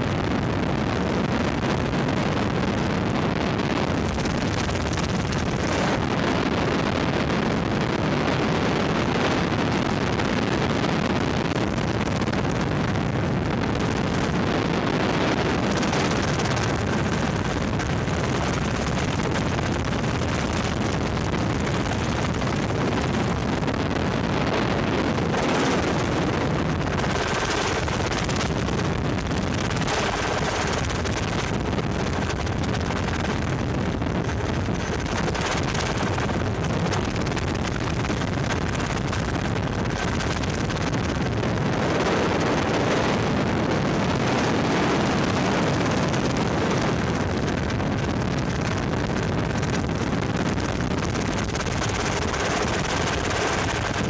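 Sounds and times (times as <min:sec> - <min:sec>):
helicopter engine and rotor noise: 0:02.4 - 0:11.6, 0:13.8 - 0:54.0.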